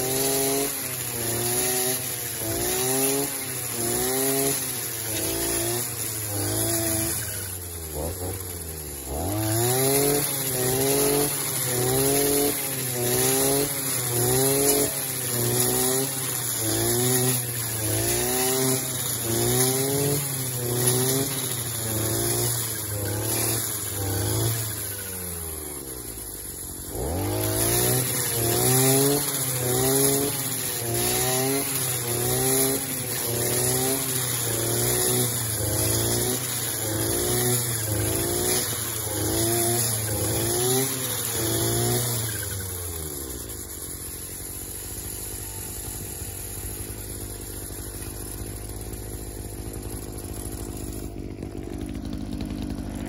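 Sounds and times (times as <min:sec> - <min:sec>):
brushcutter engine cutting grass: 0:00.0 - 0:53.0.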